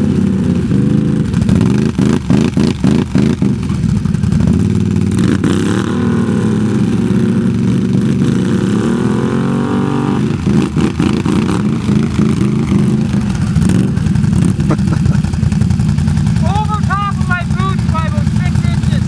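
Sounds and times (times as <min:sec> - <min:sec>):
atv engines running: 0:00.0 - 0:19.0.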